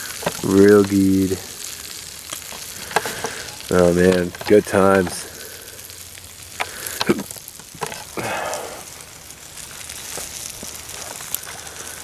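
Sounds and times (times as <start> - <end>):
food sizzling on a grill: 0.0 - 12.0
small crackles: 0.0 - 12.0.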